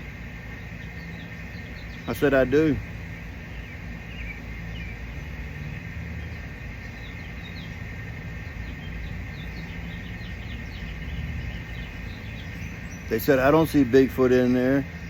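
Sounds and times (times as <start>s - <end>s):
insect buzz: 0.0s - 15.0s
steady low hum: 0.0s - 15.0s.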